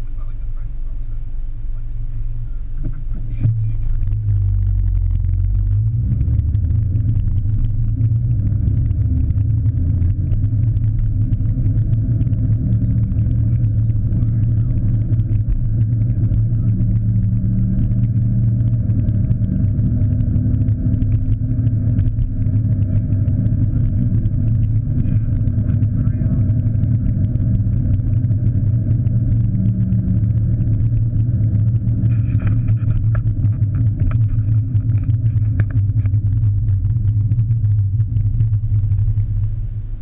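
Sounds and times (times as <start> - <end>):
muffled car engine rumble: 0.0 - 40.0.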